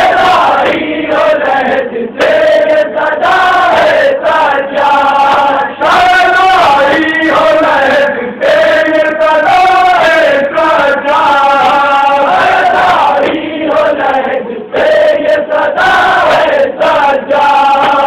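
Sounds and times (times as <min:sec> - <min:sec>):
men chanting in chorus: 0:00.0 - 0:18.0.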